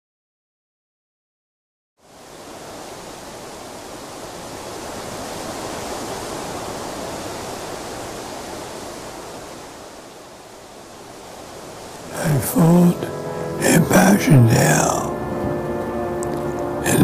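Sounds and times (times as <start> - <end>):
steady rushing noise: 2.0 - 17.0.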